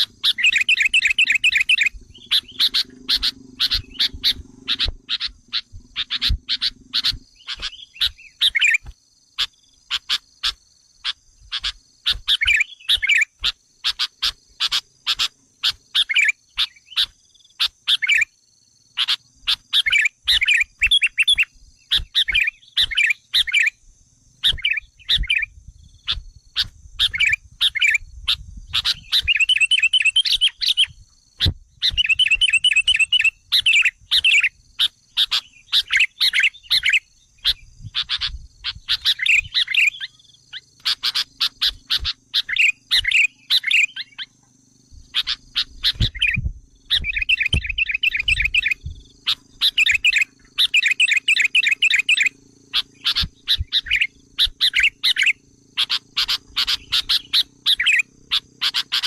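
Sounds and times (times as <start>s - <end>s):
bulbul chattering call: 0.0s - 59.0s.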